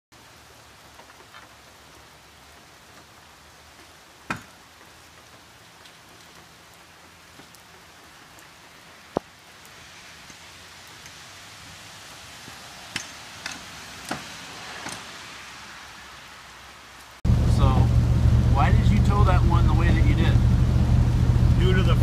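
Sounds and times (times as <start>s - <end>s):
steady rain patter: 0.1s - 22.0s.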